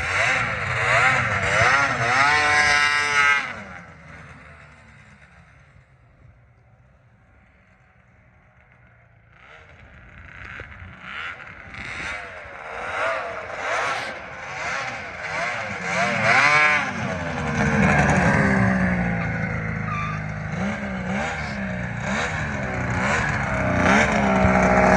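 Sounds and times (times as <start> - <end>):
snowmobile engine revving: 0.0 - 5.8, 9.2 - 24.9.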